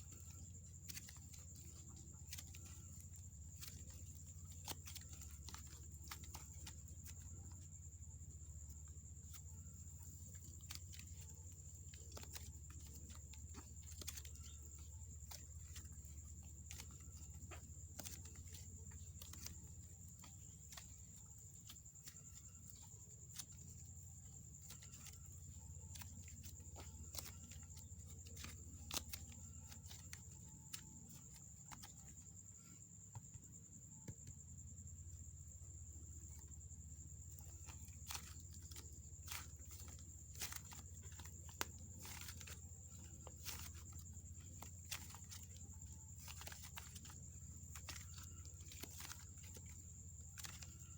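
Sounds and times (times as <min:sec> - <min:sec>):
faint high-pitched whine: 0:00.0 - 0:50.9.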